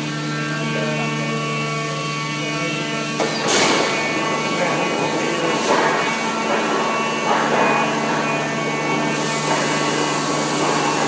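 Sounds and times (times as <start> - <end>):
machine hum: 0.0 - 11.0
noisy machine working: 0.0 - 11.0.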